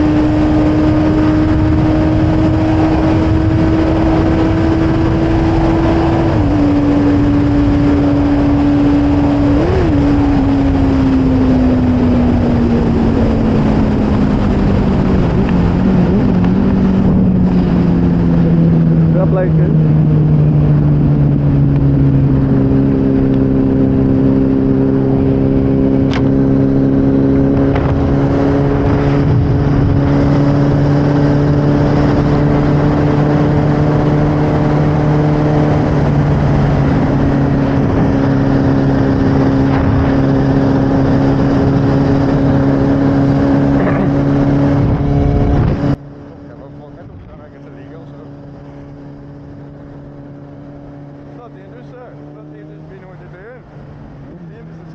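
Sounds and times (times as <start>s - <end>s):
motorcycle engine cruising: 0.0s - 54.9s
rushing wind noise: 0.0s - 54.9s.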